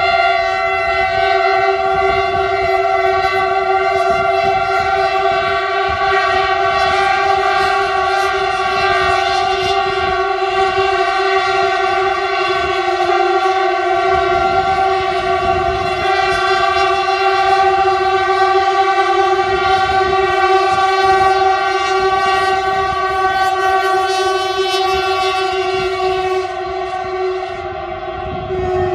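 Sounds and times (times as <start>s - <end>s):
locomotive horns blaring: 0.0s - 28.9s
train rumbling: 0.0s - 28.9s.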